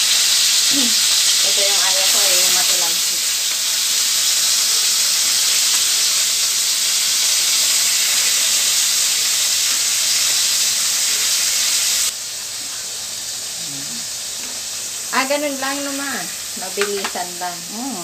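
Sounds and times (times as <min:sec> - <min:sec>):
meat sizzling in hot oil: 0:00.0 - 0:18.0.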